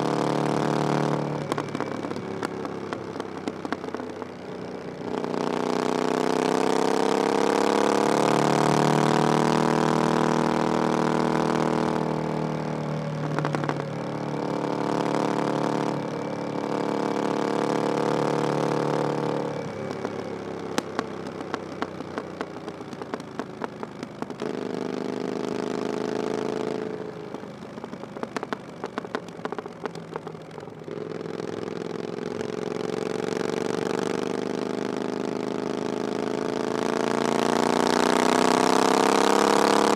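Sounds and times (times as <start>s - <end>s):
exhaust crackles and pops: 0.0s - 39.9s.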